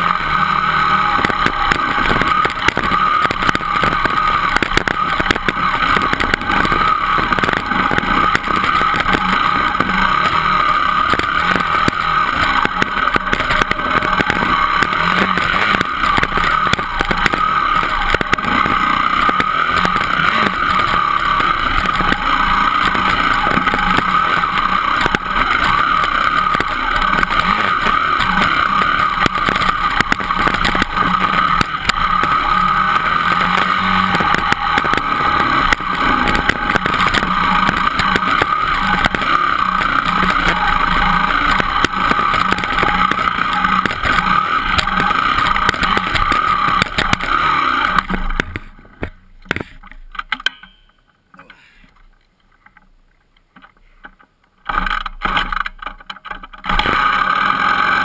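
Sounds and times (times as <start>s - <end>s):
dirt bike engine running: 0.0s - 51.1s, 54.6s - 58.0s.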